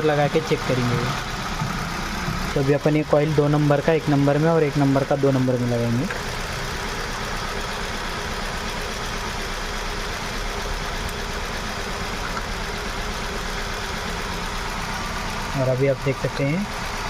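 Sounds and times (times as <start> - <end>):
car engine idling unevenly: 0.0 - 17.0.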